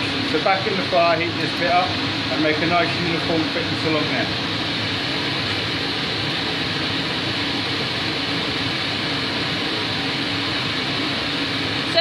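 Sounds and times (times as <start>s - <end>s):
forge blower rushing: 0.0s - 12.0s.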